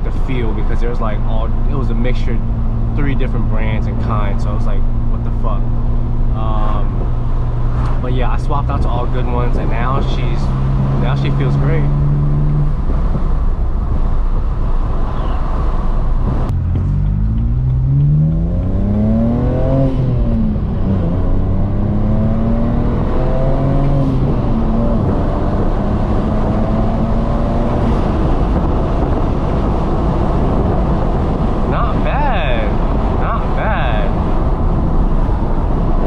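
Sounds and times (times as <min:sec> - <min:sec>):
car engine accelerating: 0:00.0 - 0:36.0
heavy road noise: 0:00.0 - 0:36.0.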